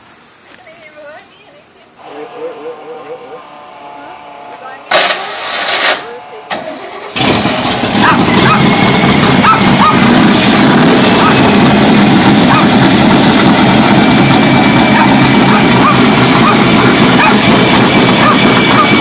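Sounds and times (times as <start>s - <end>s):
truck engine running loud: 2.0s - 19.0s.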